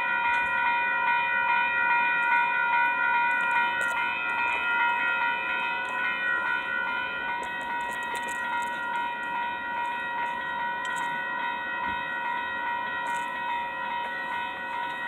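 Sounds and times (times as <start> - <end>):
railroad crossing bells ringing: 0.0 - 15.0.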